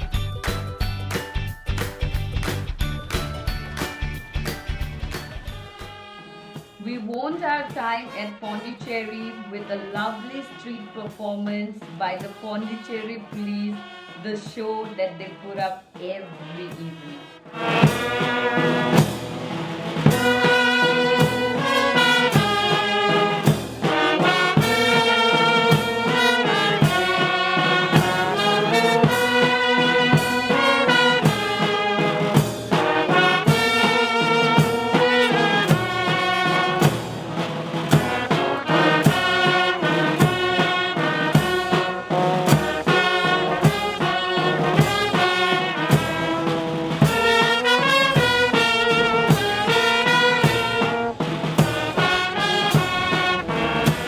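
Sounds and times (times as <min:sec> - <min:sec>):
drum strikes: 0:00.0 - 0:08.2, 0:17.5 - 0:54.0
brass band playing: 0:03.8 - 0:54.0.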